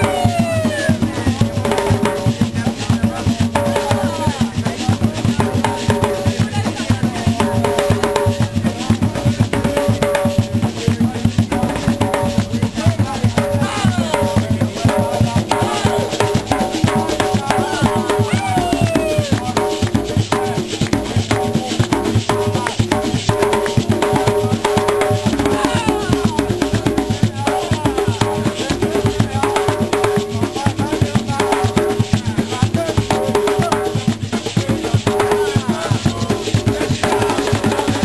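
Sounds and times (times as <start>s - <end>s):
djembe hand drums playing: 0.0s - 38.0s.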